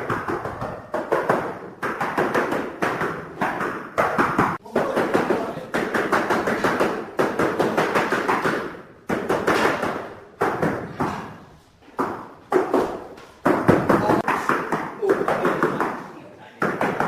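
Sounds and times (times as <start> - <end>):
rapid tapping on tile: 0.0 - 11.2, 11.9 - 16.0.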